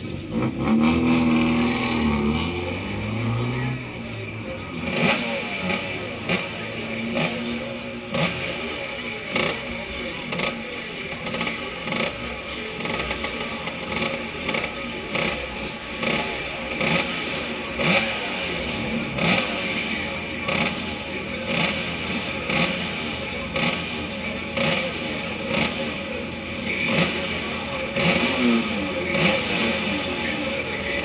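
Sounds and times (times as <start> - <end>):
scooter engines idling: 0.0 - 31.0.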